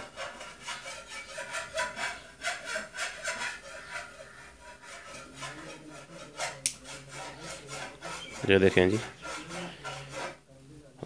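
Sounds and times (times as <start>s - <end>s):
rhythmic rasping strokes: 0.0s - 10.5s.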